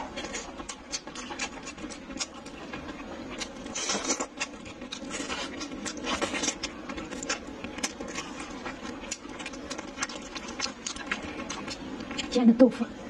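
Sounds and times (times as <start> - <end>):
chewing and lip smacks: 0.0 - 12.4.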